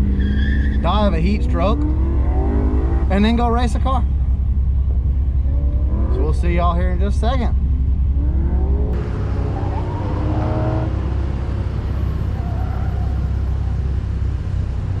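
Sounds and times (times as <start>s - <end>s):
car engine running low revs: 0.0s - 15.0s.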